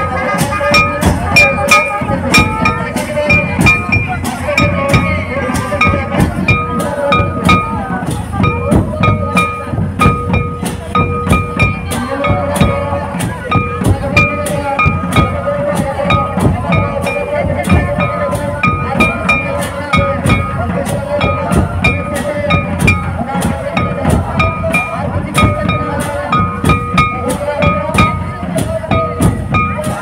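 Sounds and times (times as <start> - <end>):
drums in quick rhythm: 0.0 - 30.0
high instrument repeated notes: 0.0 - 30.0.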